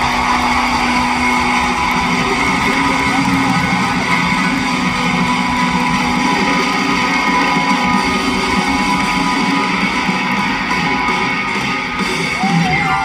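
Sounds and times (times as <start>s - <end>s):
electric guitar: 0.0s - 13.0s
live pop-rock band: 0.0s - 13.0s.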